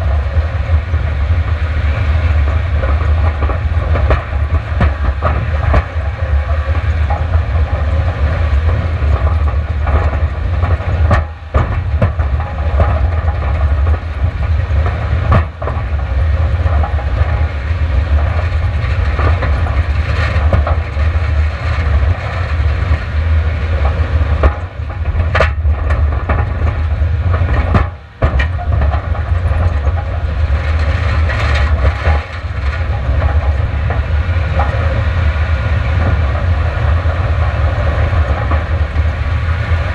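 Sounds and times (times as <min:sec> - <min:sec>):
heavy low rumble: 0:00.0 - 0:39.9
tyres on loose gravel: 0:00.0 - 0:39.9.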